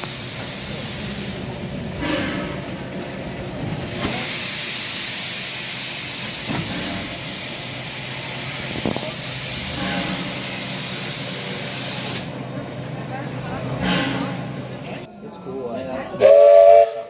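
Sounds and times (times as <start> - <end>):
steam locomotive venting steam: 0.0 - 15.0.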